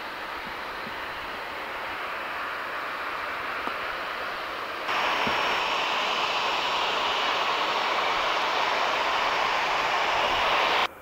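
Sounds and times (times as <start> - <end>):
high turbofan whine: 0.0 - 11.0
jet engines roaring: 0.0 - 11.0.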